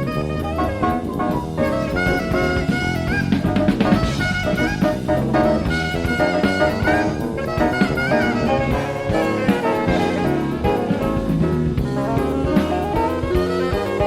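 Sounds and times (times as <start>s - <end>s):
drum kit: 0.0s - 14.0s
saxophone lead: 0.0s - 14.0s.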